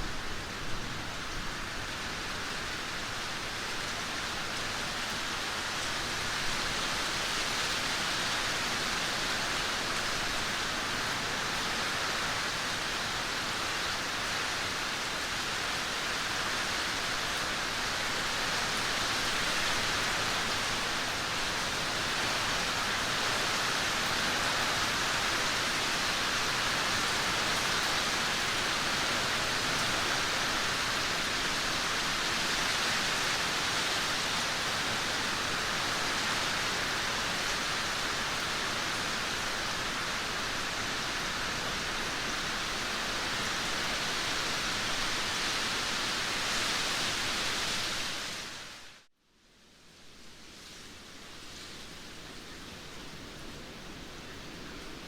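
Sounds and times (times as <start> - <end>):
heavy rain pouring: 0.0 - 49.1.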